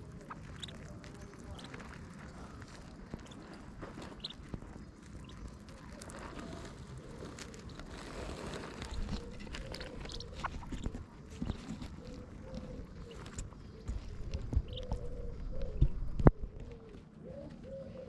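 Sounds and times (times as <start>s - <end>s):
beak clicks and small crunches: 0.0s - 17.6s.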